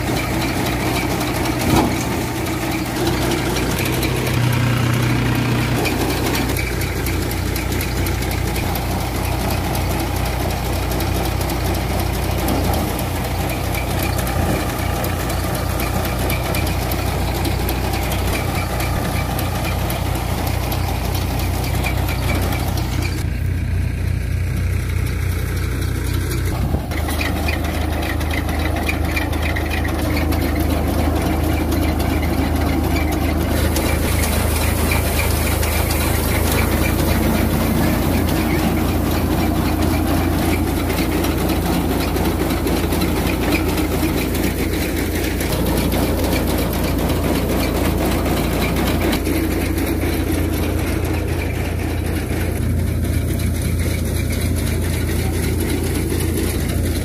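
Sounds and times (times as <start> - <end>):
thresher drum and fan turning: 0.0 - 23.5, 24.9 - 57.0
tractor engine running: 0.0 - 57.0.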